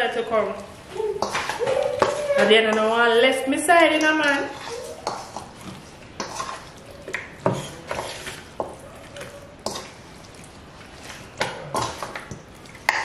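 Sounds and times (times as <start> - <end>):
utensil clinking and scraping a pot: 1.2 - 3.2, 3.8 - 13.0.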